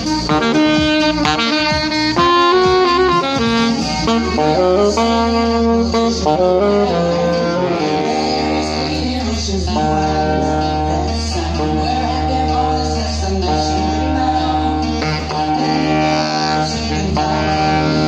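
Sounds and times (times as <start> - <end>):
deep steady bass: 0.0 - 18.0
saxophone playing jazzy melody: 0.0 - 18.0.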